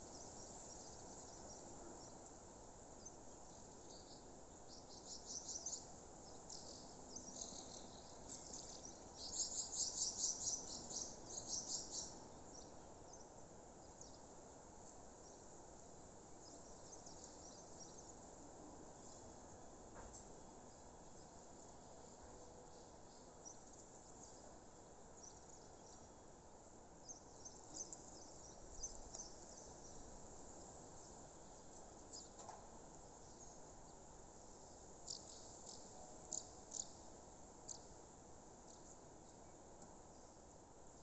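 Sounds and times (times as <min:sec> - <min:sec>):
steady low hiss: 0:00.0 - 0:41.0.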